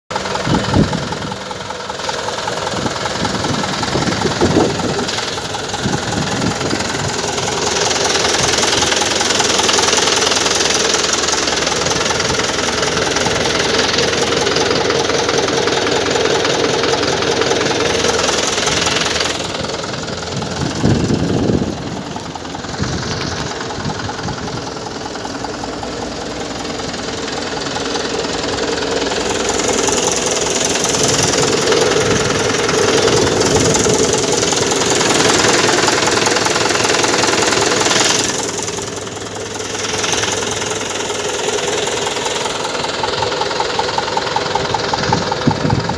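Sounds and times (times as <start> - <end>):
diesel tractor engine idling: 0.1 - 45.9.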